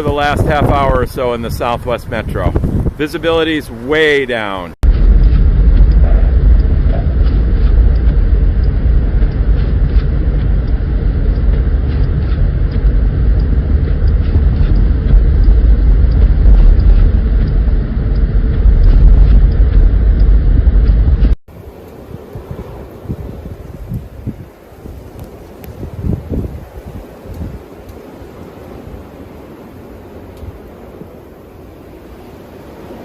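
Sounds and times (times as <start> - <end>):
blizzard wind buffeting microphone: 0.0 - 33.0.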